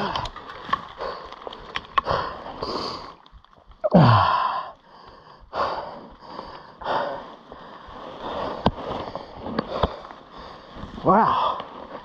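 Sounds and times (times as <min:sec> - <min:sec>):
person breathing hard: 0:00.7 - 0:03.2, 0:04.0 - 0:12.0.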